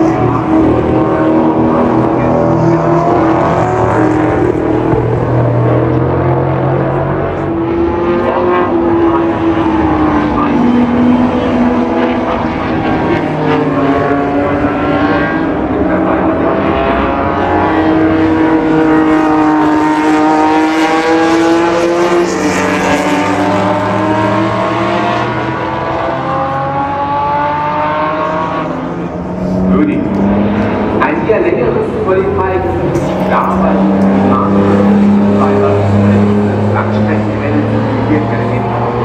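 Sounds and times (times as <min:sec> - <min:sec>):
racing car engines passing: 0:00.0 - 0:39.0.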